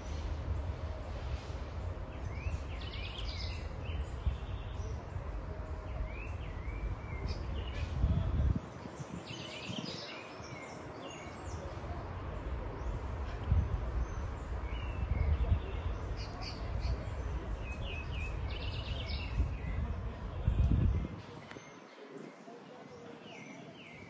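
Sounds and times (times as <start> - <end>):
low rumbling noise: 0.0 - 9.8, 10.4 - 21.5
small birds chirping: 0.0 - 24.0.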